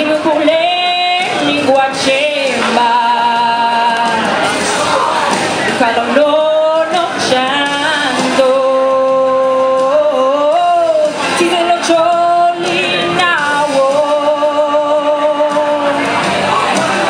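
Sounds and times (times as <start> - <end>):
woman singing into microphone: 0.0 - 16.9.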